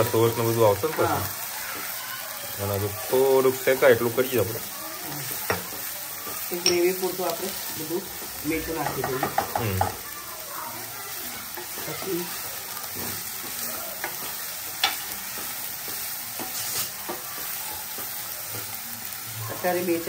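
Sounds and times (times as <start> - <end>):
spatula stirring and scraping: 0.0 - 20.0
vegetables sizzling in oil: 0.0 - 20.0.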